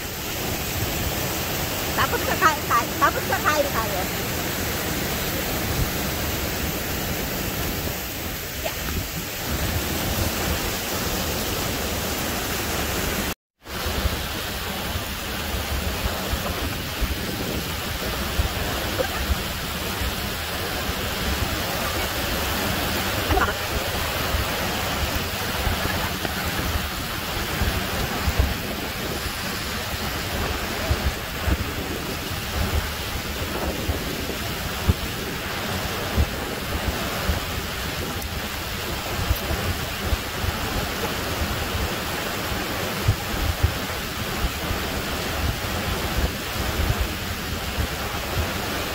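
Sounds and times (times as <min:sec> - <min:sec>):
waterfall rushing over rocks: 0:00.0 - 0:48.9.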